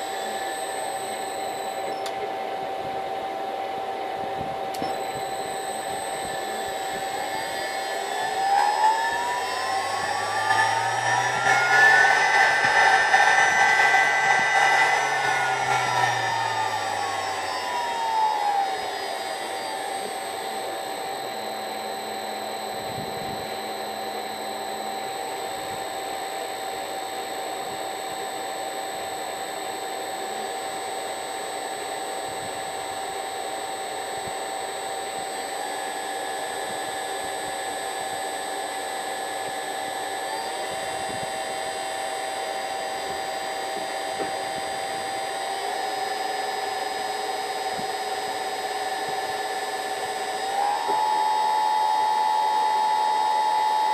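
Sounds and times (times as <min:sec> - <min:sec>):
spindle motor electric whine: 0:00.0 - 0:53.9.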